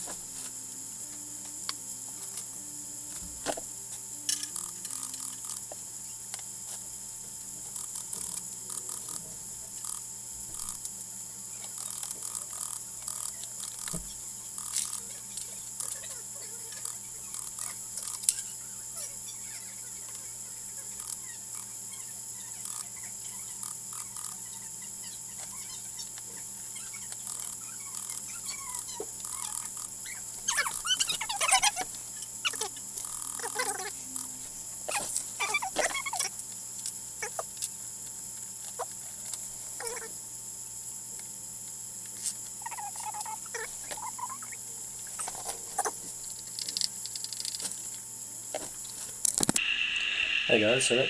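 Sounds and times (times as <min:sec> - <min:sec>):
electrical hum and hiss: 0:00.0 - 0:51.0.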